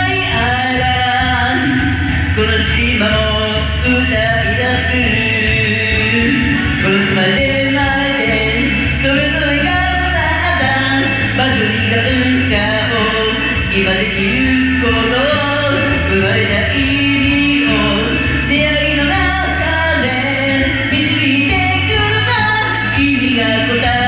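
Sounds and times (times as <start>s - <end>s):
person singing karaoke: 0.0s - 24.0s
pop backing track with bass: 0.0s - 24.0s.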